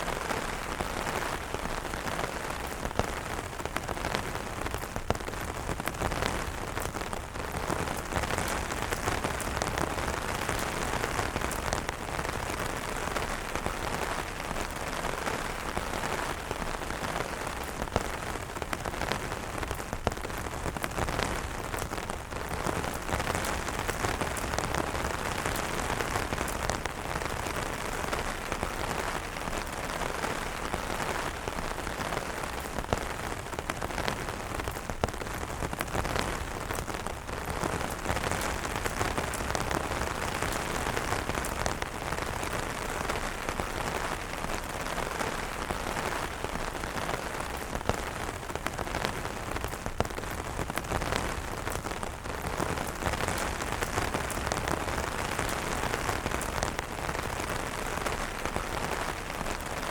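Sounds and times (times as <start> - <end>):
rain falling on an umbrella: 0.0 - 59.9.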